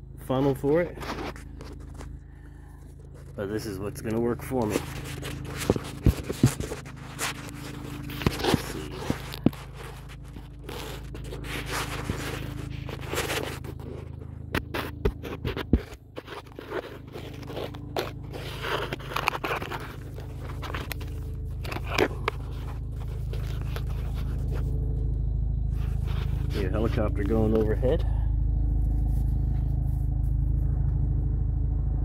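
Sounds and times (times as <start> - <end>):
scraping and rustling handling noise: 0.3 - 28.1, 28.7 - 31.0
helicopter drone overhead: 0.8 - 32.0.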